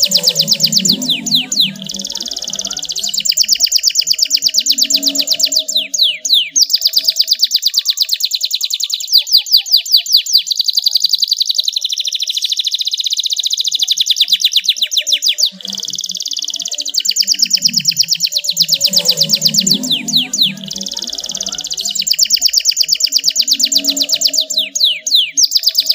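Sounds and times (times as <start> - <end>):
canary singing trills: 0.0 - 25.9.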